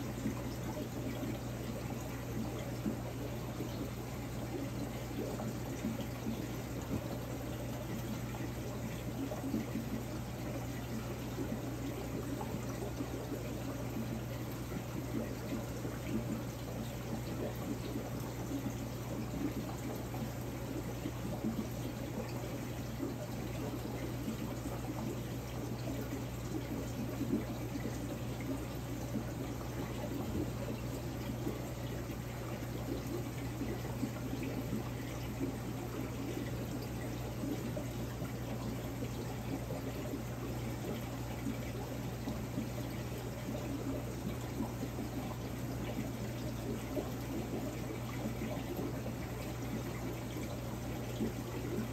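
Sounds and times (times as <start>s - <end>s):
air bubbles: 0.0s - 51.9s
pump humming: 0.0s - 51.9s.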